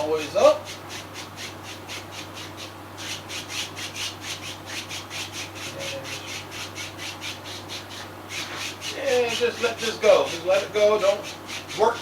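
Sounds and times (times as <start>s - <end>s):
paintbrush scrubbing wet paint: 0.6s - 12.0s.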